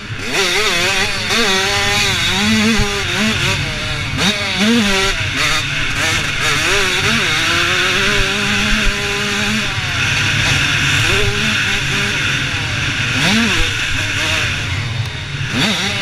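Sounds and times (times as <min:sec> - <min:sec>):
motocross bike engine: 0:00.0 - 0:16.0.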